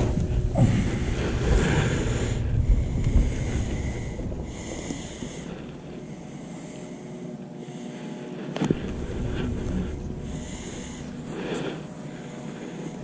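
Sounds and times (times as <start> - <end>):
wind rumbling on microphone: 0.0 - 6.5, 8.6 - 13.0.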